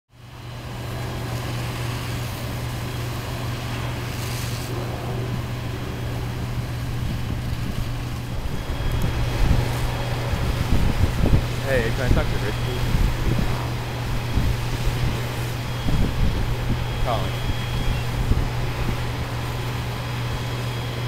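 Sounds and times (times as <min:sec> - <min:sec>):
diesel engines droning: 0:00.2 - 0:21.0
water streams hissing: 0:01.2 - 0:21.0.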